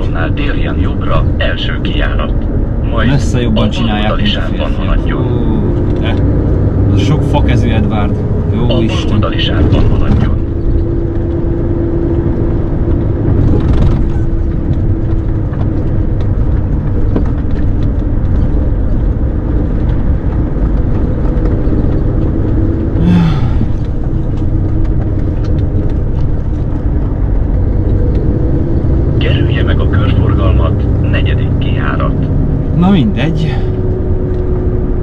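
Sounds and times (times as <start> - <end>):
truck engine and road rumble: 0.0 - 35.0.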